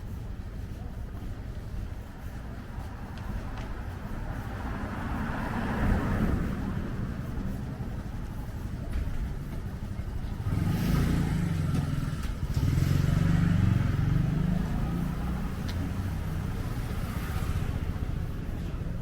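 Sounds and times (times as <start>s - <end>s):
vehicles passing close by: 0.0s - 19.0s.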